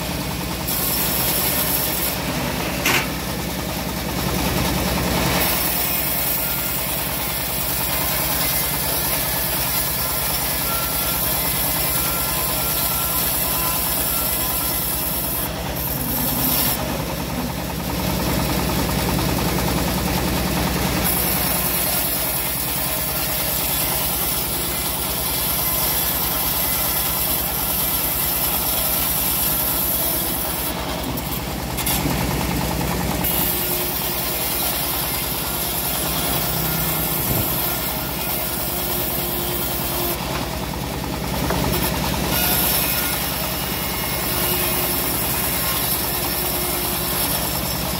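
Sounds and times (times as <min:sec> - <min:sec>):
band sawmill drone: 0:00.0 - 0:47.9
saw blade cutting hiss: 0:00.6 - 0:03.2, 0:05.2 - 0:17.8, 0:21.0 - 0:32.2, 0:33.2 - 0:40.2, 0:41.7 - 0:47.9.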